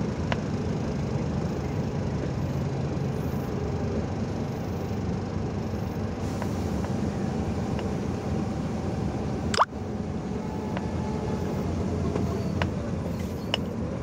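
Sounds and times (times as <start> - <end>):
truck engine and road drone: 0.0 - 14.0.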